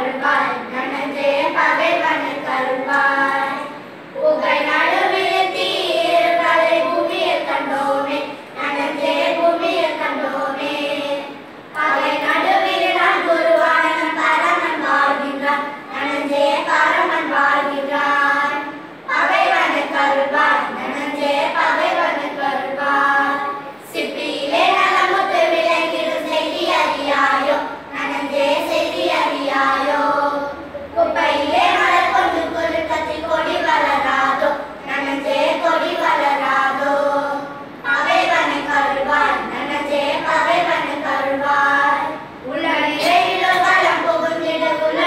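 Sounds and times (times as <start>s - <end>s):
girls singing together: 0.0s - 45.0s.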